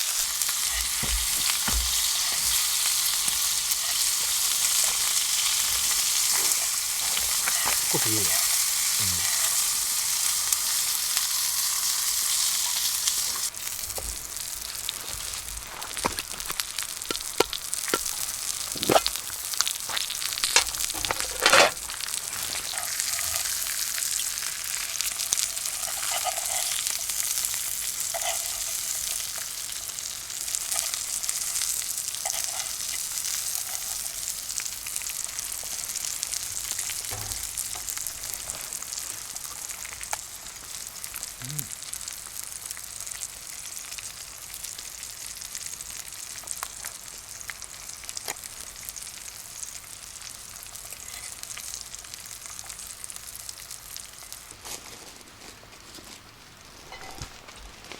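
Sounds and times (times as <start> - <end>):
steak sizzling in a pan: 0.0 - 54.6.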